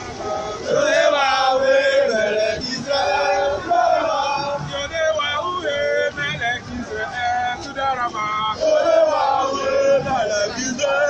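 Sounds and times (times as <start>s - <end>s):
crowd singing a chant: 0.0s - 11.0s.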